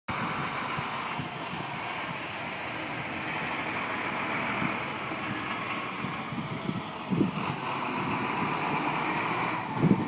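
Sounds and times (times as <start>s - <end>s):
road traffic hiss and rumble: 0.1s - 10.0s.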